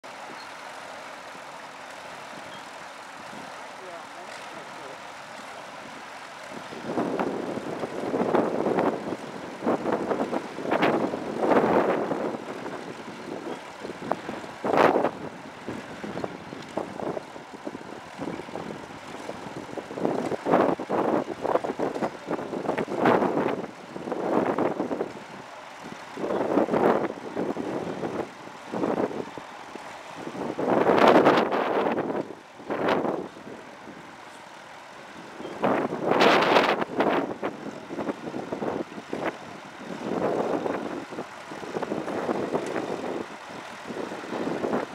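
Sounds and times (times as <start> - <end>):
tractor engines running under load: 0.0 - 44.9.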